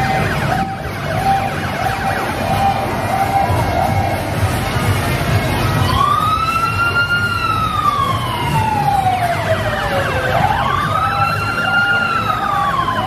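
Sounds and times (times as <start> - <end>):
siren wailing: 0.0 - 4.5, 5.7 - 13.0
fast repeating siren sweep: 0.0 - 4.6, 5.7 - 13.0.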